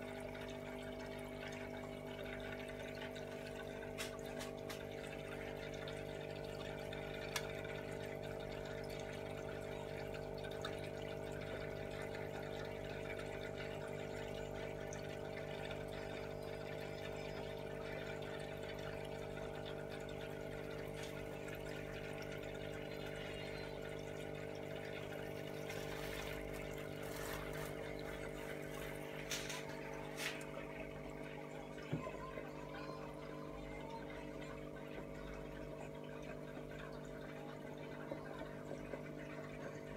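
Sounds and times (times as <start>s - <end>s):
aquarium pump humming: 0.0s - 39.9s
water trickling and splashing: 0.0s - 39.9s.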